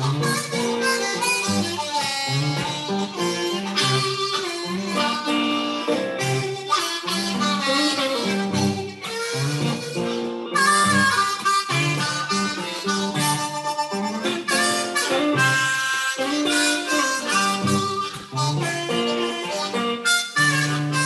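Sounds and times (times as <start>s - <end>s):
harmonica wailing melody: 0.0s - 21.0s
strummed guitar chords: 0.0s - 21.0s.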